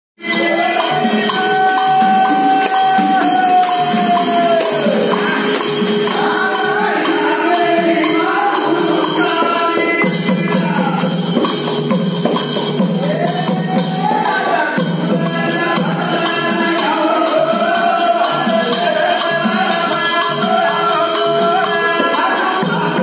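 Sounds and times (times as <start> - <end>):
men singing long held notes: 0.2 - 11.8, 12.7 - 23.0
hand drum: 0.2 - 23.0
jingling hand percussion: 0.2 - 23.0.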